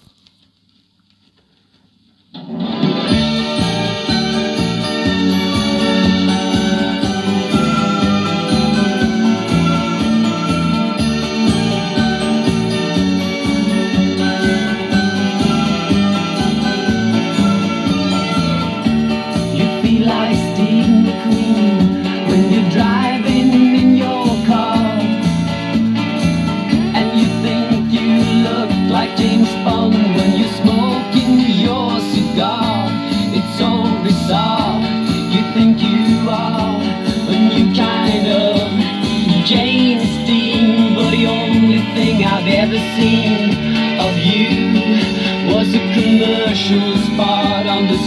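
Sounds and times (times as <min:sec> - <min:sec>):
pop song on record player: 0:02.1 - 0:48.0.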